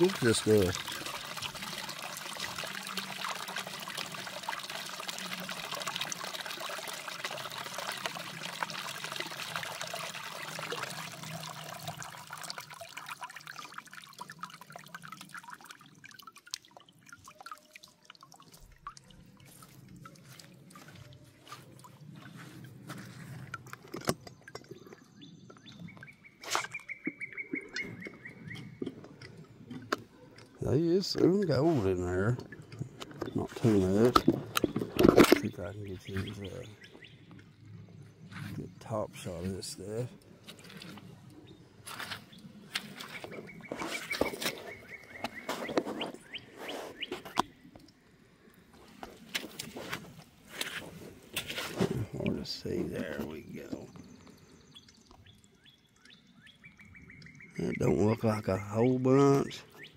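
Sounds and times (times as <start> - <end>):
water dripping: 0.0 - 59.9
water trickling into tub: 0.0 - 59.9.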